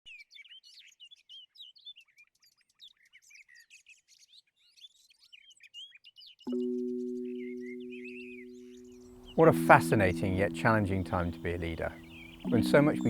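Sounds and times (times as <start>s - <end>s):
songbirds chirping: 0.1s - 13.0s.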